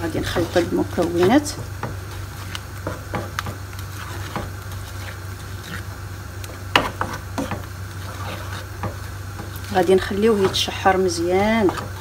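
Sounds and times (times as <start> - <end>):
spatula scraping a frying pan: 0.0 - 12.0
steady low hum: 0.0 - 12.0.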